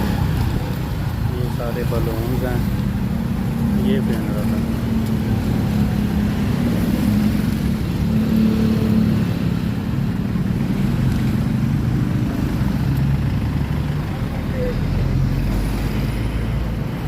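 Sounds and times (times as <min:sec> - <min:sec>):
vehicle engines at low speed: 0:00.0 - 0:17.0.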